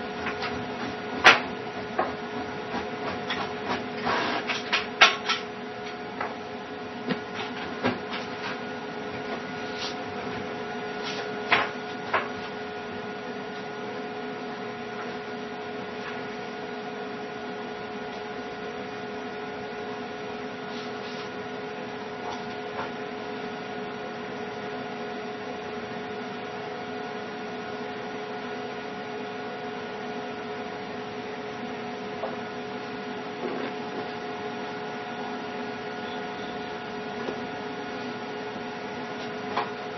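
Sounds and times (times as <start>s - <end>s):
electrical machine hum: 0.0s - 39.9s.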